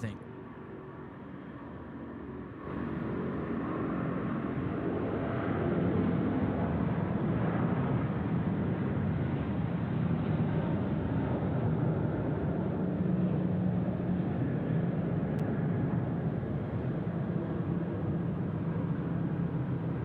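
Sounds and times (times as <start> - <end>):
jet engines roaring at takeoff: 0.8 - 20.0.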